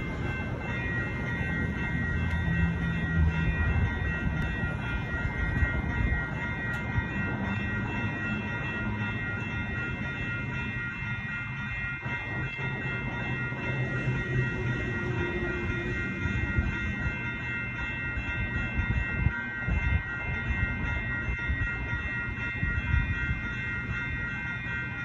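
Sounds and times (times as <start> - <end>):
electronic crossing bell ringing: 0.0 - 25.0.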